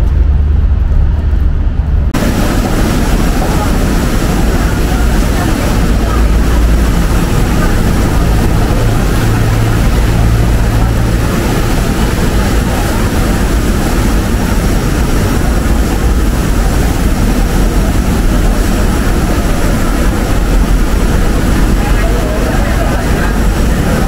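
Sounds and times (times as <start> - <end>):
vehicle rumble: 0.0 - 24.0.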